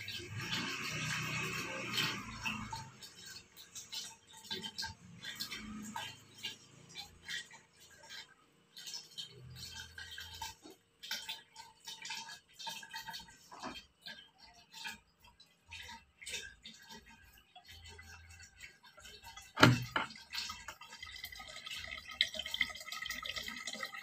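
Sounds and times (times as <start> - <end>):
water trickling into bottle: 0.0 - 24.0.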